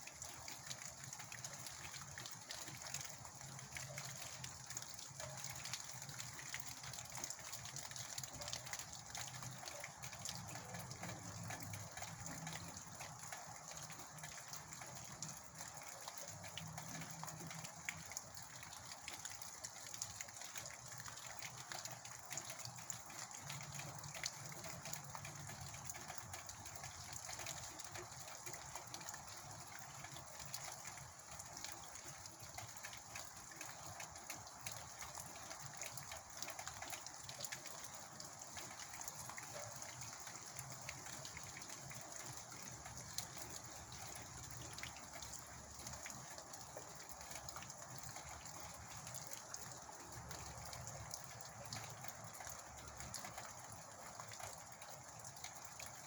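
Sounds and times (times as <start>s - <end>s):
rain drops ticking: 0.0s - 56.0s.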